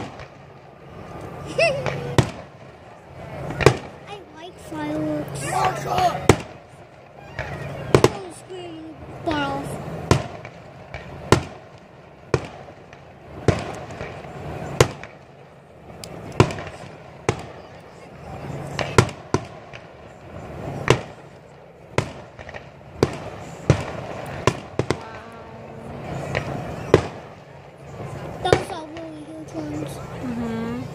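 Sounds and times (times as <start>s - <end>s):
fireworks bangs: 0.0s - 30.9s.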